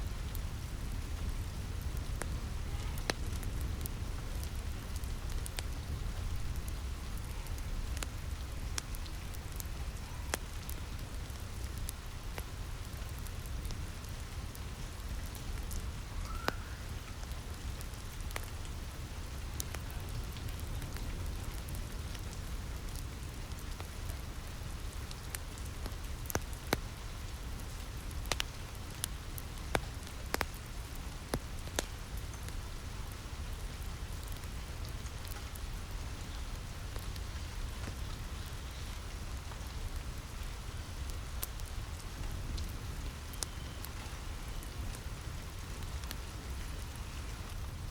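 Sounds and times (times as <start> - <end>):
rain tapping on a roof: 0.0 - 47.9
wood fire crackling: 0.0 - 47.9.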